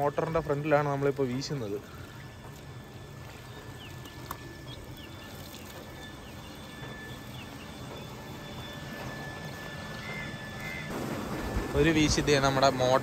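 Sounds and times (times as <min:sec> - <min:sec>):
high insect drone: 0:00.0 - 0:11.6
low motor pump hum: 0:00.0 - 0:13.0.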